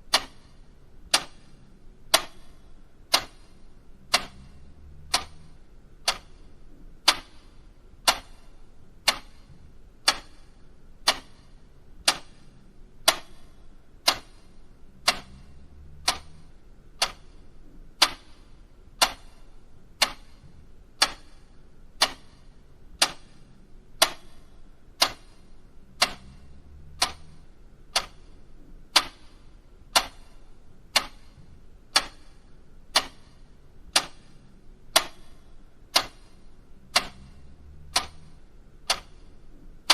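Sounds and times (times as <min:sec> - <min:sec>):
faint low hum: 0:00.0 - 0:39.9
mechanical clock ticking: 0:00.0 - 0:39.9.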